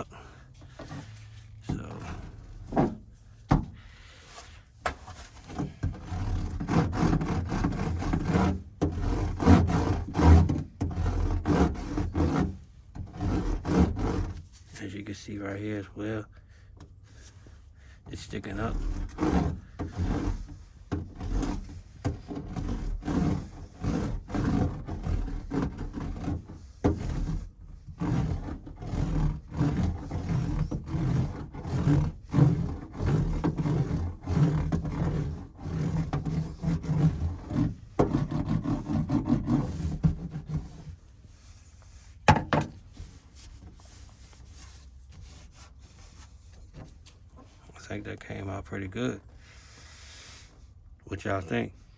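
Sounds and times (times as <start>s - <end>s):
hand roller rubbing over mat: 0.0s - 15.0s, 17.1s - 47.7s.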